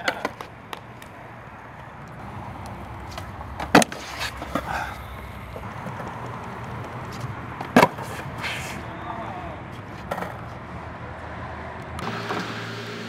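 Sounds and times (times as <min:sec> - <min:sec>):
skateboard clacks: 0:00.0 - 0:12.6
skateboard wheels rolling on concrete: 0:00.0 - 0:13.0.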